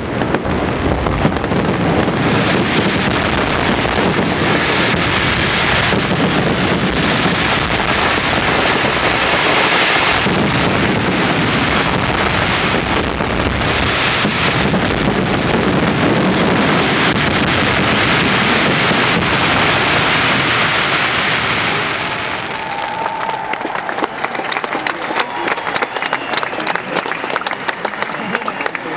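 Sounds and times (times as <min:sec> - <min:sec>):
fireworks bursting in a barrage: 0:00.0 - 0:28.9.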